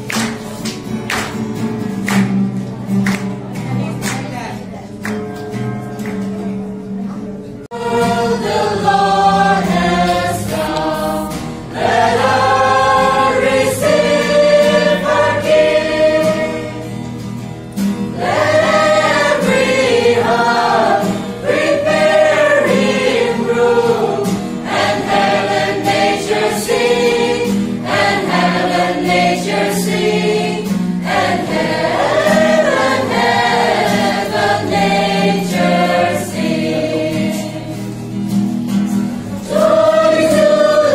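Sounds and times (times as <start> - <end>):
strummed acoustic guitar: 0.0 - 40.9
group singing a carol: 7.7 - 40.9.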